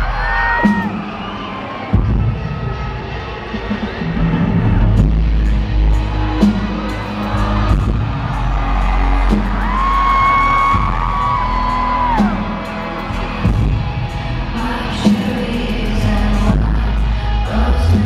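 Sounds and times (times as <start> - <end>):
live band playing pop song: 2.0 - 18.0.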